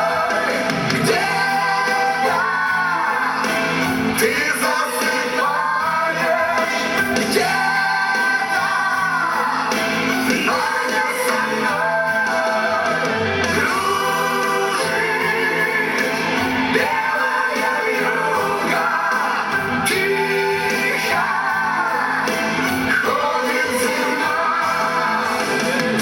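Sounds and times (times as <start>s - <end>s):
dance music: 0.0s - 26.0s.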